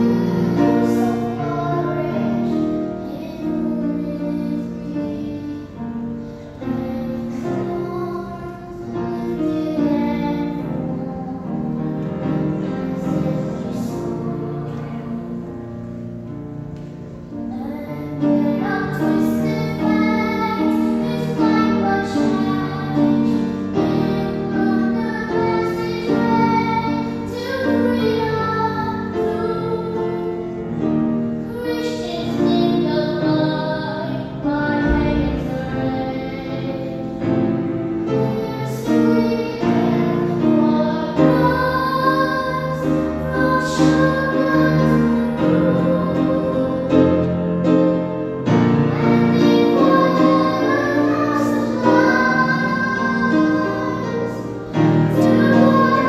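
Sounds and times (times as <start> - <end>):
girl singing into a microphone: 0.0 - 16.0, 17.2 - 47.9, 48.5 - 56.0
instrumental accompaniment: 0.0 - 56.0.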